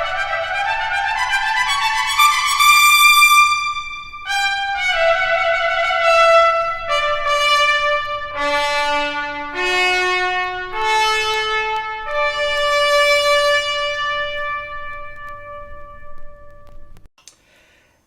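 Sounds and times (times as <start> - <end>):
trumpet playing long notes: 0.0 - 17.0.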